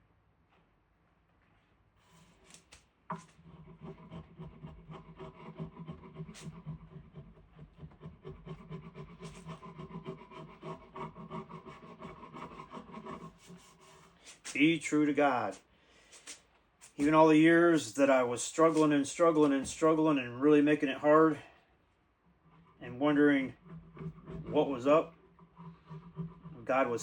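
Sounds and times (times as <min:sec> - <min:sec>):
rubbing strokes on wood: 0:02.0 - 0:21.3, 0:22.5 - 0:27.0.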